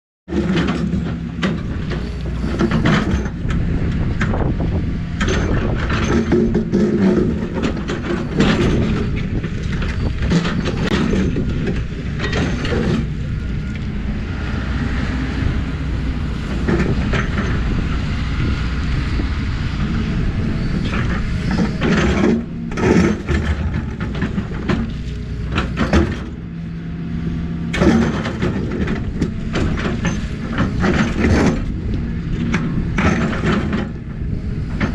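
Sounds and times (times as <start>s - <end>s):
excavator bucket clanking and scraping: 0.3s - 34.9s
excavator diesel engine running: 0.3s - 34.9s.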